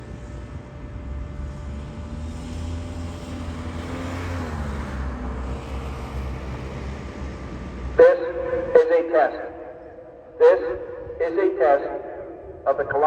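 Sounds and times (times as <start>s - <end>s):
vehicle passing on street: 0.0s - 12.6s
low traffic rumble: 0.0s - 13.0s.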